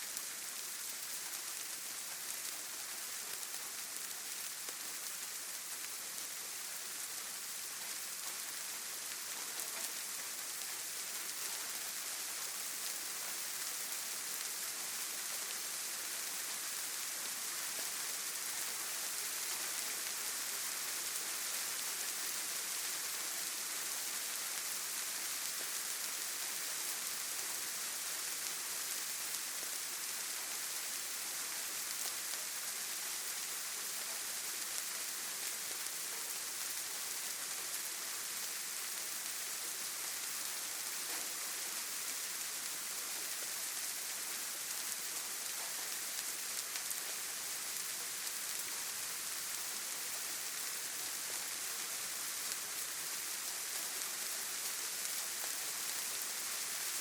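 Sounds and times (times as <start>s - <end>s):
rain pattering on foliage: 0.0s - 57.0s.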